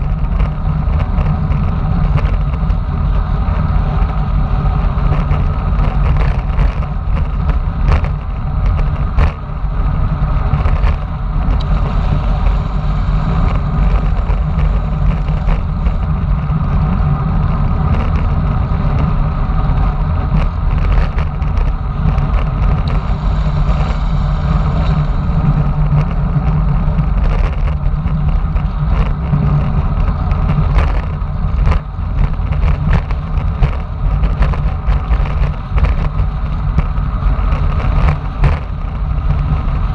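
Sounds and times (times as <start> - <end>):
tyres on asphalt: 0.0 - 39.9
wind buffeting microphone: 0.0 - 39.9.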